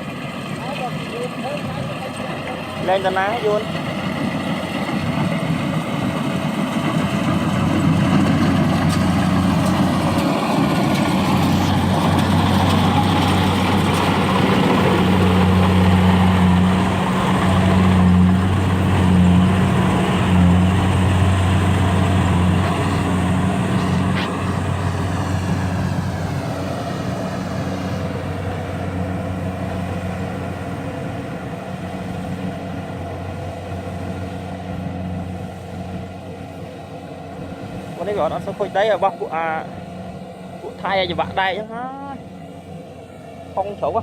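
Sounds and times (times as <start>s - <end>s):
farm machinery engine humming: 0.0s - 44.0s.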